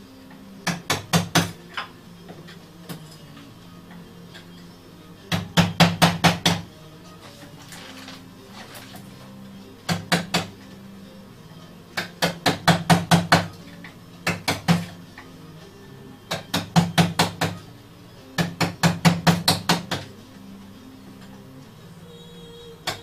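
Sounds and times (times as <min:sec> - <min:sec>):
quiet background music: 0:00.0 - 0:23.0.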